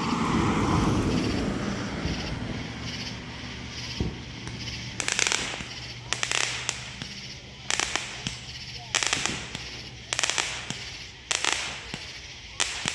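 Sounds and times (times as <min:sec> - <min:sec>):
fireworks crackling: 0:00.0 - 0:12.9.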